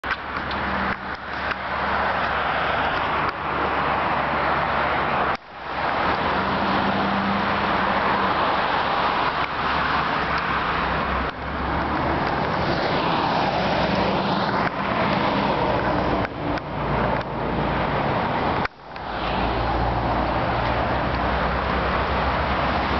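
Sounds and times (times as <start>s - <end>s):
road noise hiss: 0.0s - 22.9s.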